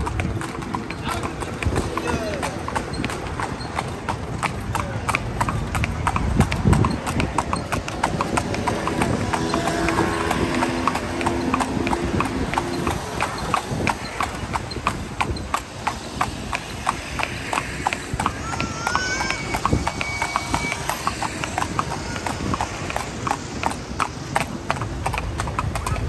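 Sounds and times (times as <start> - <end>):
horse hooves clip-clopping on street: 0.0 - 26.0.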